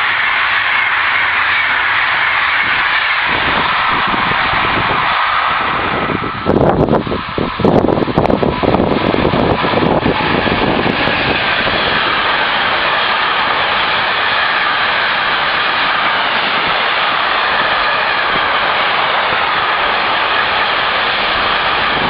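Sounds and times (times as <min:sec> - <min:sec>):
low buffeting: 0:00.0 - 0:22.0
train wheels rushing on rails: 0:00.0 - 0:22.0.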